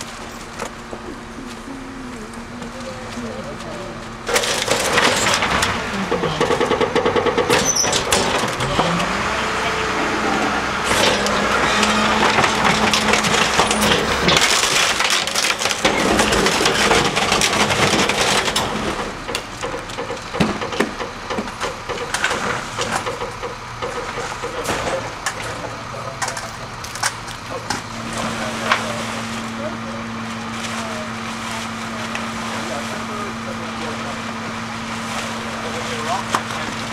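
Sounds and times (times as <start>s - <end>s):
wood and debris crunching: 0.0s - 9.6s, 10.2s - 36.9s
heavy machinery whining: 0.0s - 36.9s.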